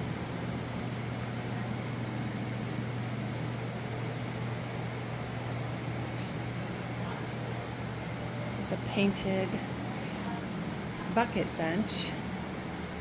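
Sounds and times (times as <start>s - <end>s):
electric fans whirring: 0.0s - 13.0s.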